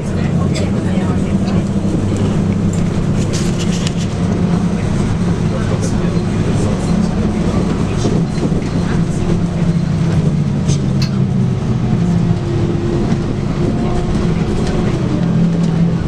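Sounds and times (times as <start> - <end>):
bus diesel engine humming: 0.0 - 16.0.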